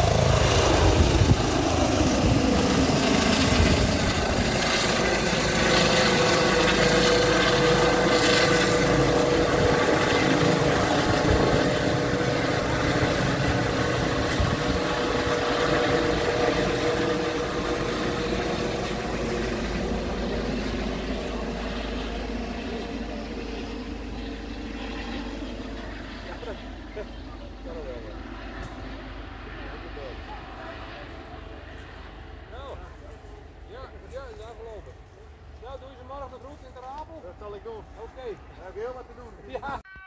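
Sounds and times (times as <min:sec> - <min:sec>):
helicopter flying off: 0:00.0 - 0:39.8.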